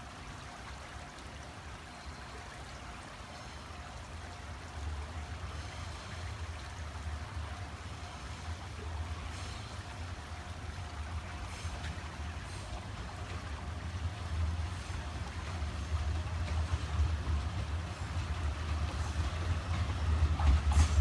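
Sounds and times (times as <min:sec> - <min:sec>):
train rumble: 0:00.0 - 0:21.0
steady hiss: 0:01.6 - 0:21.0.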